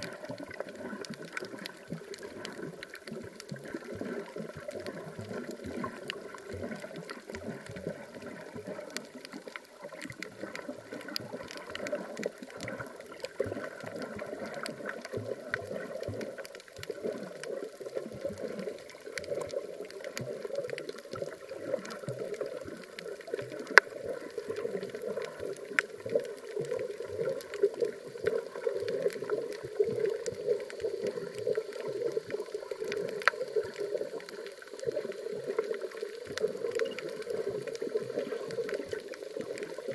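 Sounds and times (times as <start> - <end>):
faint clicks and ticks: 0.0 - 39.9
muffled underwater water rush: 0.0 - 39.9.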